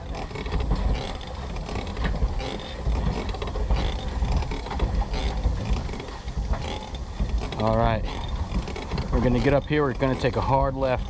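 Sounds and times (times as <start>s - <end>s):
low rumble: 0.0s - 11.0s
pedal boat drive clattering: 0.0s - 11.0s.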